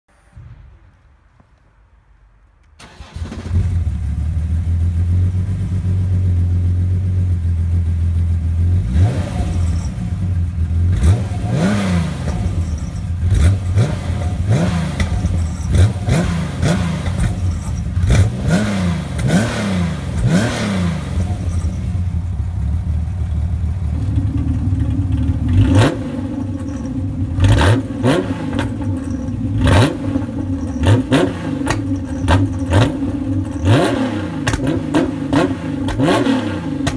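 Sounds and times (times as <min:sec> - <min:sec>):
car engine idling and revving: 0:02.6 - 0:36.9.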